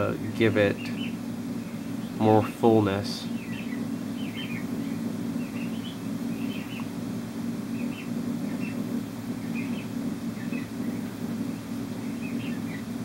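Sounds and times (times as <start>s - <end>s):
low hum: 0.0s - 13.0s
faint bird chirps: 0.2s - 2.2s, 3.2s - 7.0s, 7.7s - 13.0s.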